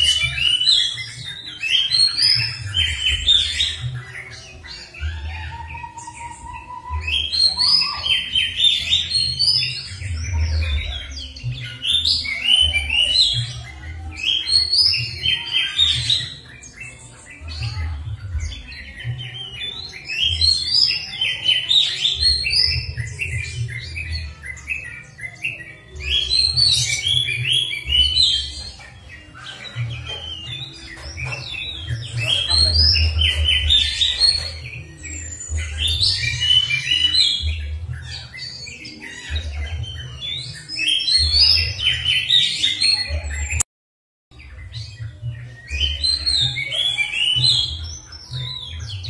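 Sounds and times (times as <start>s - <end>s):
songbird chirps and whistles: 0.0s - 17.4s, 18.4s - 43.6s, 44.3s - 49.0s.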